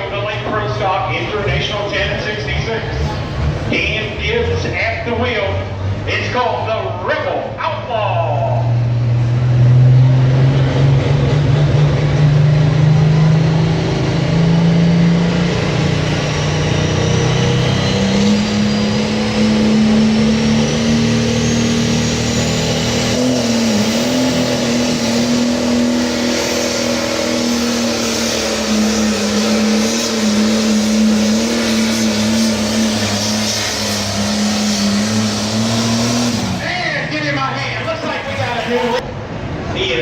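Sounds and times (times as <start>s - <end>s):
diesel tractor engine under load: 0.0s - 39.8s.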